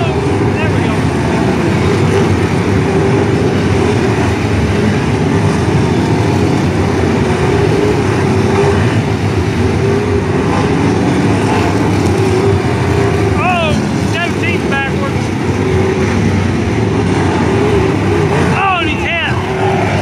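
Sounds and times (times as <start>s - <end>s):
race car engines running: 0.0s - 20.0s.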